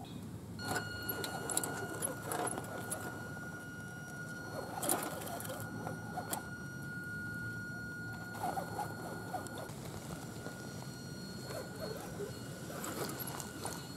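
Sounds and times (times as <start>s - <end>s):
electric motor whining: 0.6s - 13.9s.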